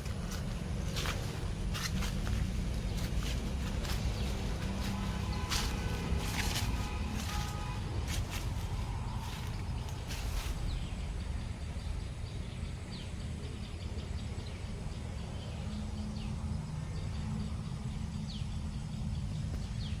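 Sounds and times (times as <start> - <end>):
bird chirping: 0.0 - 20.0
steady low rumble: 0.0 - 20.0.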